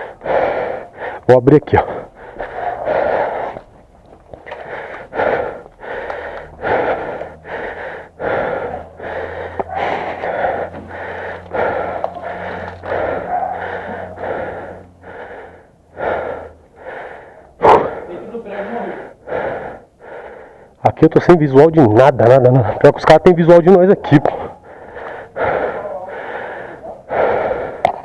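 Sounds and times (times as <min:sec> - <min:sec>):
heavy rapid breathing: 0:00.0 - 0:28.0.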